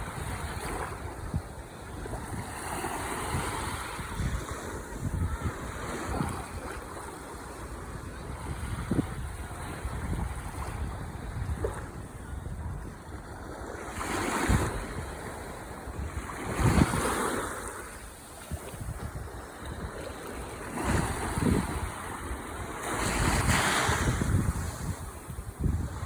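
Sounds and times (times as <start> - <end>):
ocean waves breaking: 0.0 - 26.0
wind buffeting microphone: 0.0 - 26.0.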